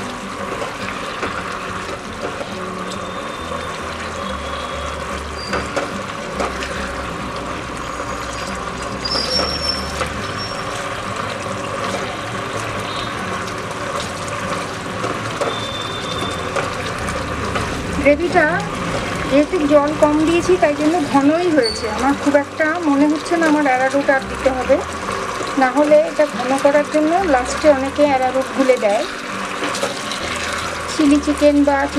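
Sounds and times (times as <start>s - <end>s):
gravy bubbling and sizzling in pan: 0.0s - 31.9s.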